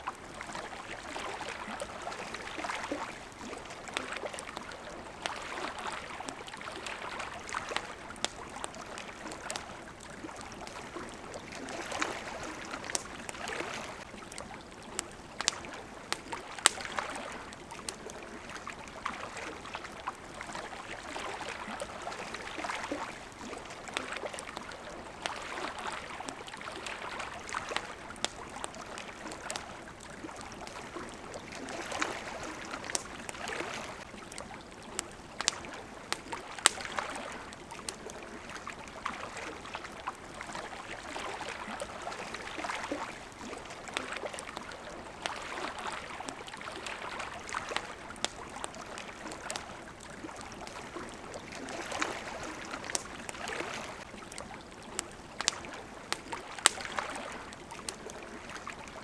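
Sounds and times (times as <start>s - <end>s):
campfire crackling: 0.0s - 59.0s
water lapping: 0.0s - 59.0s.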